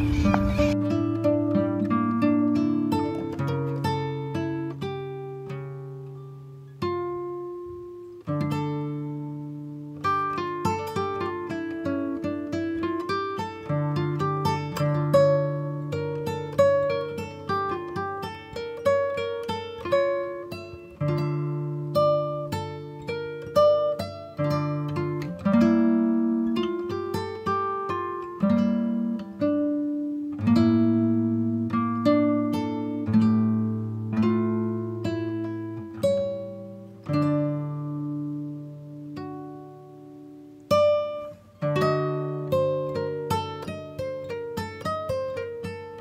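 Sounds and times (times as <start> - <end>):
plucked acoustic guitar: 0.0 - 46.0.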